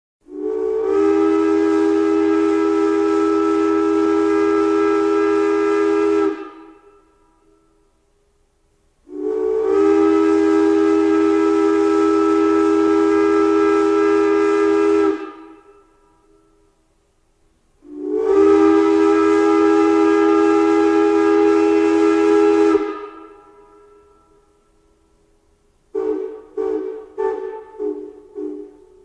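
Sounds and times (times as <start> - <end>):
steam whistle blasts: 0.2 - 8.3, 9.0 - 16.8, 17.8 - 25.3, 25.9 - 29.0
steam hissing: 0.3 - 7.5, 9.0 - 16.6, 17.8 - 24.5, 25.9 - 29.0.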